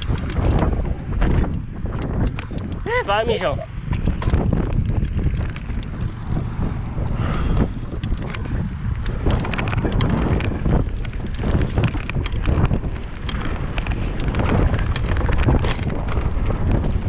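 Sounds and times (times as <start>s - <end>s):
bike rattling and knocking: 0.0s - 17.0s
wind buffeting microphone: 0.0s - 17.0s.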